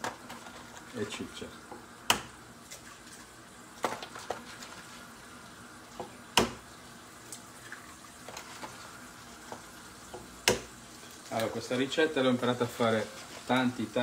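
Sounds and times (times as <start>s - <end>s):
oil sizzling in pans: 0.0s - 14.0s.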